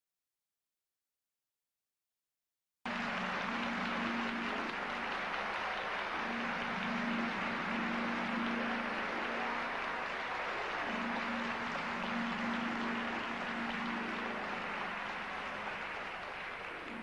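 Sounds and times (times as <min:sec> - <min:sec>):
audience applauding: 0:02.9 - 0:17.0.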